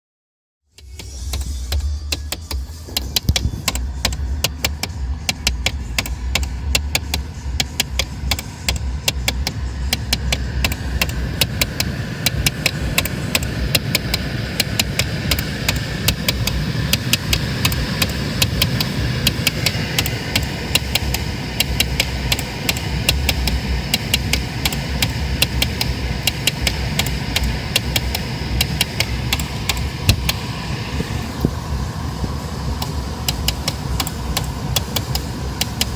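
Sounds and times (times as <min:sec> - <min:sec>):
idling engine hum: 0:00.7 - 0:35.9
rapid clicking rattle: 0:00.7 - 0:35.9.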